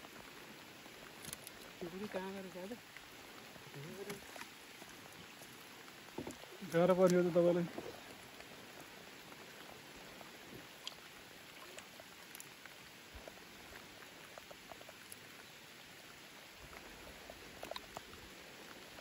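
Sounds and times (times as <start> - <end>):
light rain on water: 0.0 - 19.0.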